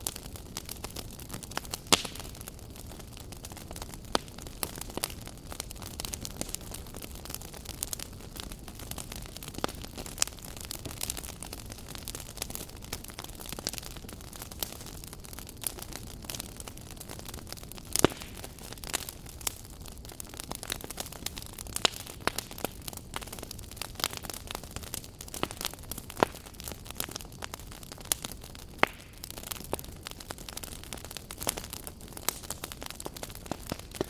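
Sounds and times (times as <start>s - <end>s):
fire flames rumbling: 0.0s - 34.0s
wood fire crackling and popping: 0.0s - 34.0s.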